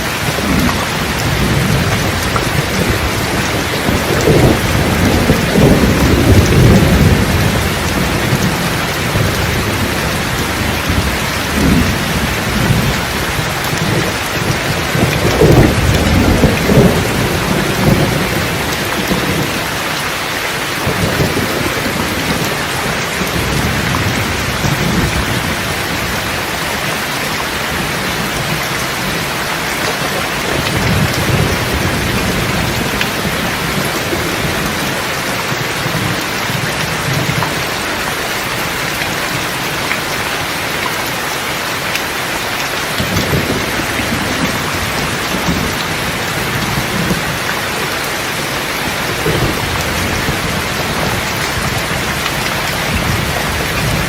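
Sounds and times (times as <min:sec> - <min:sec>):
rolling thunder: 0:00.0 - 0:20.0, 0:20.7 - 0:37.8, 0:42.8 - 0:54.0
heavy rain: 0:00.0 - 0:54.0.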